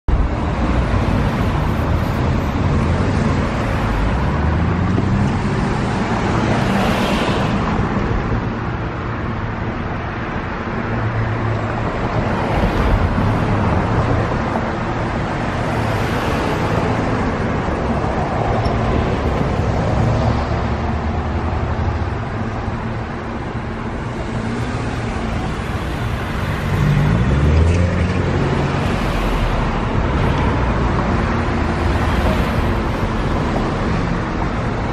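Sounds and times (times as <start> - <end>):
cars passing by: 0.1 - 34.9.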